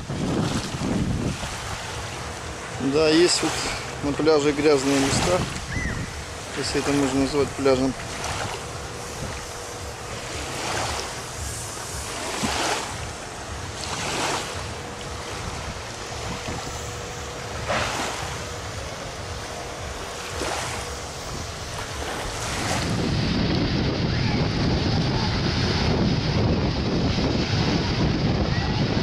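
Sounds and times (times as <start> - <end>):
small waves lapping on shore: 0.0 - 29.0
wind rumbling on microphone: 0.0 - 29.0.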